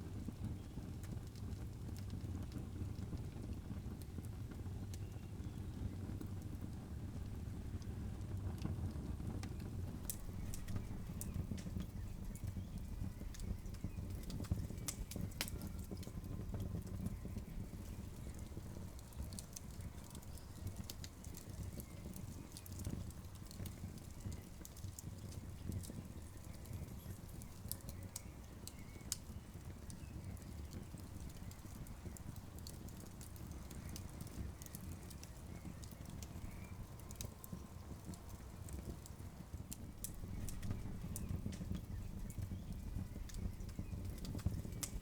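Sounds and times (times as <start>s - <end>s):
campfire crackling and popping: 0.0s - 45.0s
low fire rumble: 0.0s - 45.0s.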